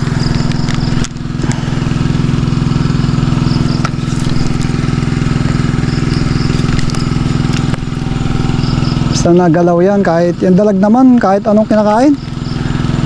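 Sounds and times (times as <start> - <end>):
small engine running steadily: 0.0 - 13.0.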